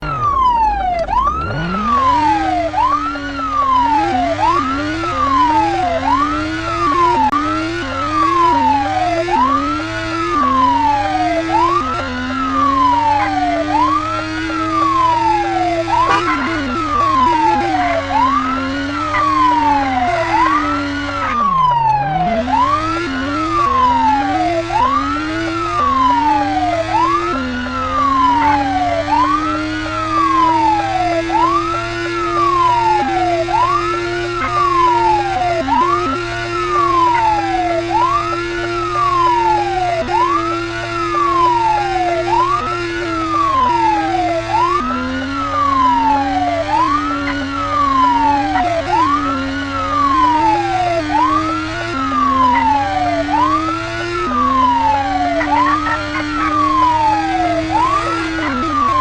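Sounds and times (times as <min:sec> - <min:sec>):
lower siren tone: 0:00.0 - 0:59.0
police siren wailing: 0:00.0 - 0:59.0.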